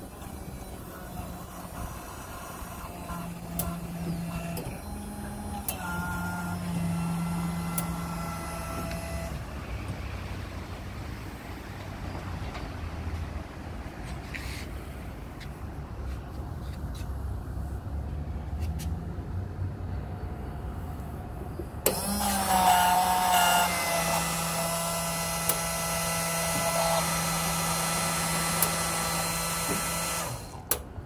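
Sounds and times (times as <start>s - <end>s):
vending machine whirring hum: 0.0s - 18.5s, 19.2s - 31.0s.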